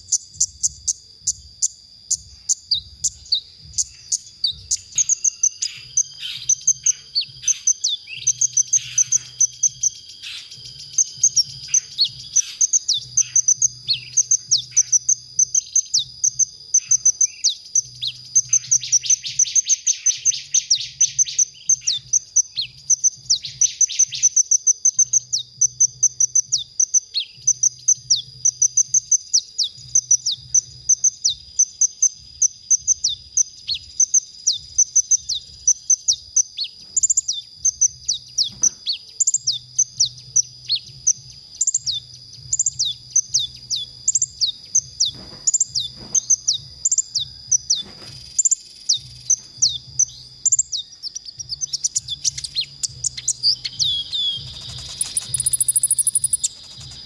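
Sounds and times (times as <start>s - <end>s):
sunbird chirping and trilling: 0.0s - 57.0s.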